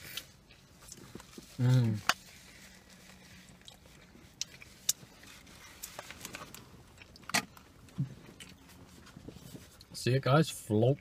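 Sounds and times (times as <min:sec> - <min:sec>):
faint chewing and mouth noises: 0:00.0 - 0:11.0.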